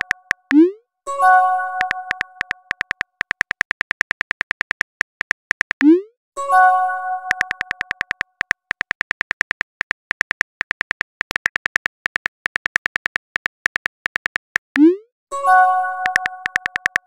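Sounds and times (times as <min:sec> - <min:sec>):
phone keyboard typing clicks: 0:00.0 - 0:00.8, 0:01.7 - 0:06.1, 0:07.3 - 0:15.0, 0:16.0 - 0:17.0.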